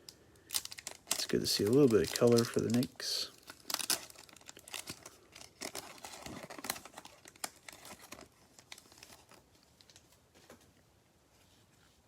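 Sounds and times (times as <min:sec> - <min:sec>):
card pack wrappers crinkling: 0:00.1 - 0:10.2.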